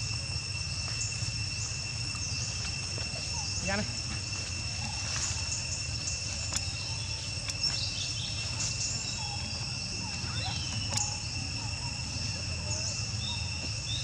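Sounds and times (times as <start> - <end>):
high-pitched insect drone: 0.0 - 14.0
faint chirps: 0.9 - 14.0.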